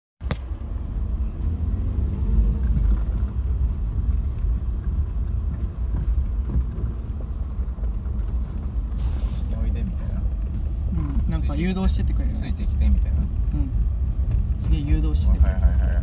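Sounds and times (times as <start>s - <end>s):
car engine and tyre rumble: 0.2s - 16.0s.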